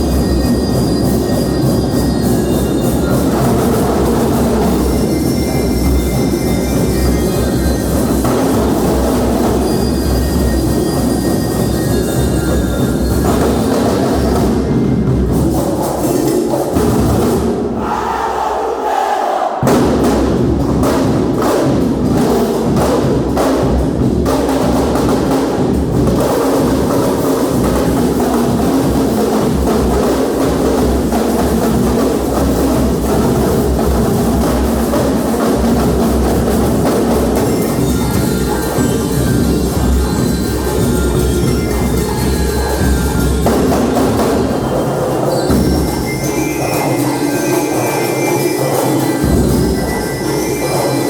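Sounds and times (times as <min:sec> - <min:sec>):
drum and bugle band playing: 0:00.0 - 0:15.6, 0:19.6 - 0:51.0
drums beating: 0:00.0 - 0:51.0.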